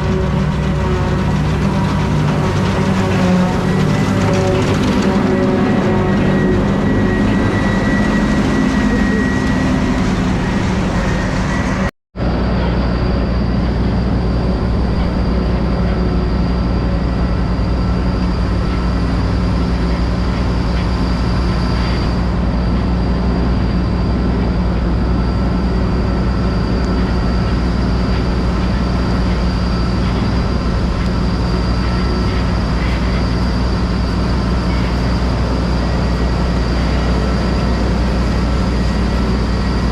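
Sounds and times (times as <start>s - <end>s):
faint high whine: 0.0s - 39.9s
tractor engine drone: 0.0s - 39.9s.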